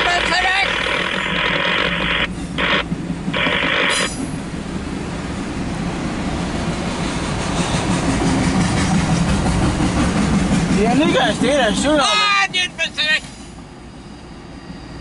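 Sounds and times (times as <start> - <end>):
freight cars rolling past: 0.0 - 15.0.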